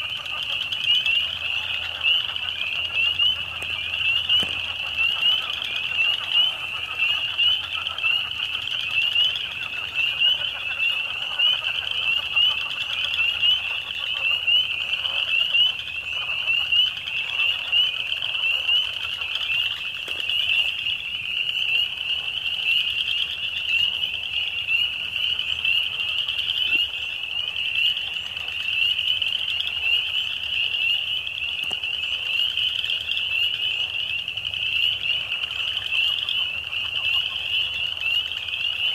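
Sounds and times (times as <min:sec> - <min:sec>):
chorus of small frogs: 0:00.0 - 0:38.9
lower frog calls: 0:00.0 - 0:38.9.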